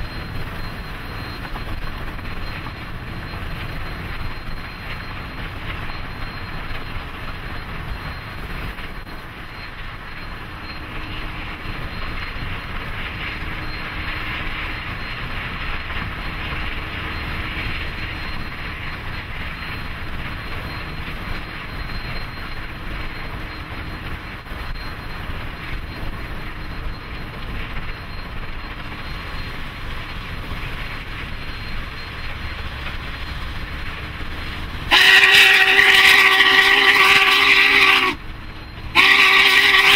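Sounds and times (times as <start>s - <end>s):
steam locomotive rushing at speed: 0.0s - 39.9s.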